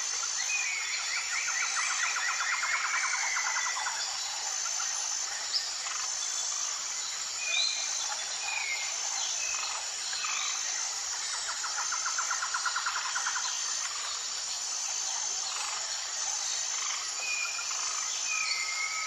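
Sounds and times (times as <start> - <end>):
high-pitched insect chorus: 0.0 - 19.0
pulsed insect call: 0.0 - 19.0.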